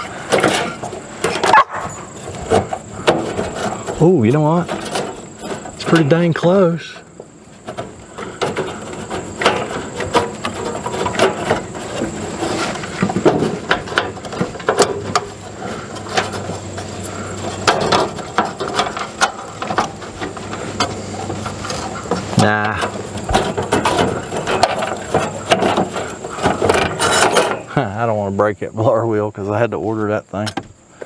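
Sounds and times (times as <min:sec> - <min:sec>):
plastic and metal clicks and scraping: 0:00.0 - 0:27.8.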